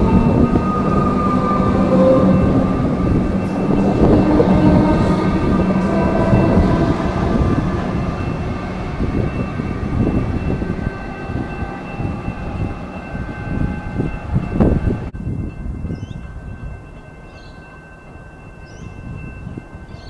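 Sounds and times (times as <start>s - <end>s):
electric train rumble: 0.0s - 20.0s
steady high ringing: 0.0s - 20.0s.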